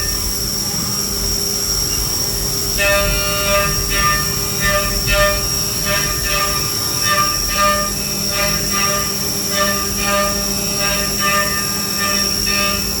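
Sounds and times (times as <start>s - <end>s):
steady drone: 1.7s - 13.0s.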